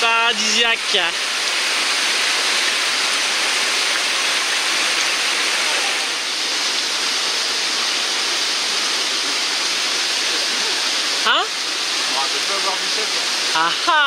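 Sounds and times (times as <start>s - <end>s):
rush of falling water: 0.0s - 14.0s.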